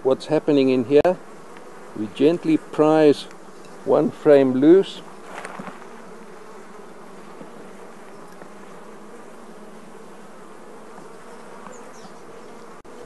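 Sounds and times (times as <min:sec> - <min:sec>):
honeybee colony humming: 0:00.0 - 0:13.0.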